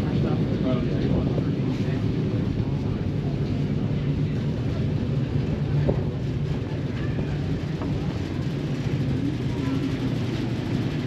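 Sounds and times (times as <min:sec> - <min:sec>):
ferry engine drone: 0:00.0 - 0:11.0
wind noise: 0:00.0 - 0:11.0.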